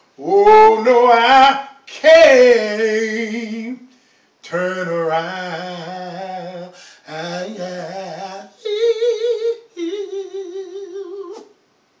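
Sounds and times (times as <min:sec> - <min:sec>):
man singing gospel unaccompanied: 0:00.2 - 0:11.6.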